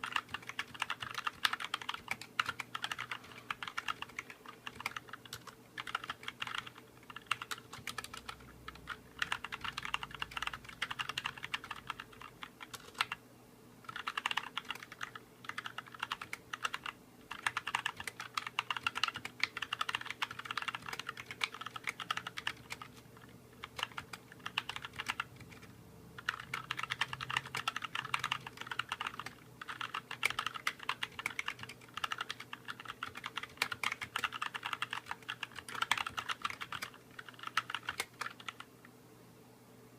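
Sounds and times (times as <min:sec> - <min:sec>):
fast typing on mechanical keyboard: 0:00.0 - 0:13.2, 0:13.8 - 0:38.7.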